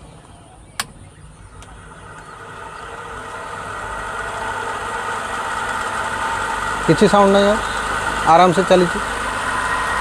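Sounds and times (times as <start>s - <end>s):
electric fan motor humming: 0.0s - 10.0s.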